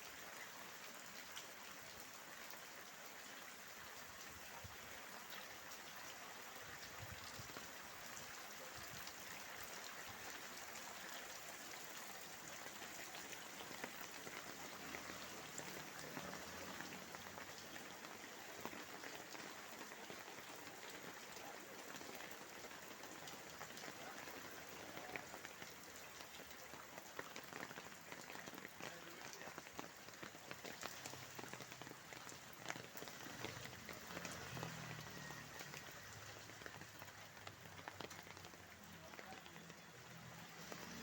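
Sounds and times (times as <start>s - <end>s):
steady rain falling: 0.0s - 41.0s
raindrops ticking: 0.2s - 41.0s.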